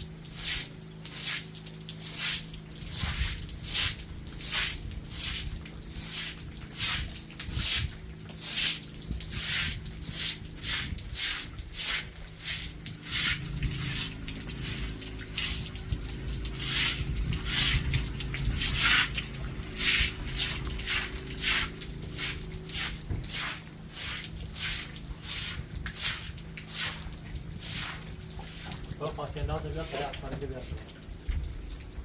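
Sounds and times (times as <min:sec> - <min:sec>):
broom sweeping wet surface: 0:00.0 - 0:31.0.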